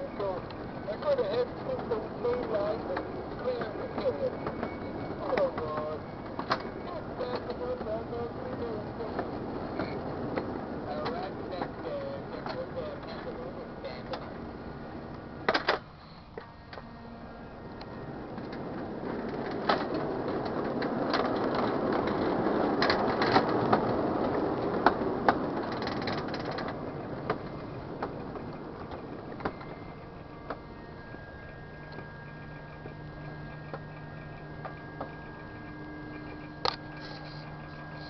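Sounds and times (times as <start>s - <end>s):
faint low hum: 0.0s - 38.0s
miniature train rumbling past: 0.0s - 38.0s.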